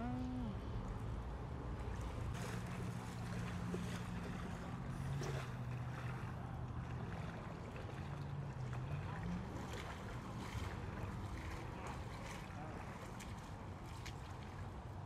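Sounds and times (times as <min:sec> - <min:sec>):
motorboat engine droning: 0:00.0 - 0:15.0
water noise: 0:00.0 - 0:15.0
wind: 0:00.0 - 0:15.0.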